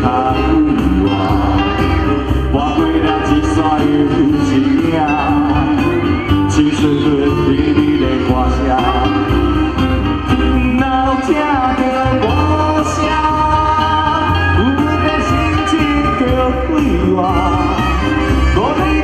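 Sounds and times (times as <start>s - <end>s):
live band playing pop song: 0.0s - 19.0s.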